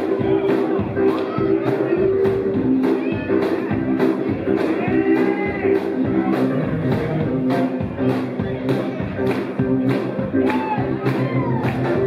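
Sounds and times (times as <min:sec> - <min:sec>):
drums keeping a steady beat: 0:00.0 - 0:12.0.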